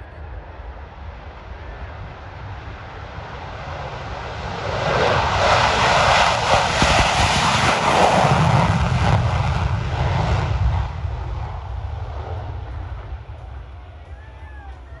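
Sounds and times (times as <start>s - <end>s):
jet taking off in afterburner: 0.1s - 14.7s.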